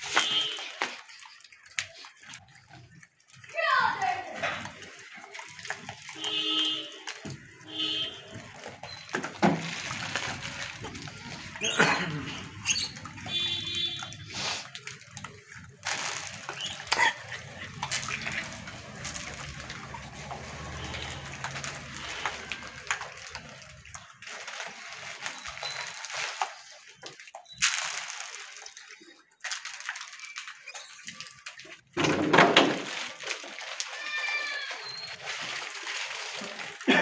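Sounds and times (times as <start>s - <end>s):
monkeys scuffling and rustling: 4.1s - 31.7s, 32.7s - 37.0s.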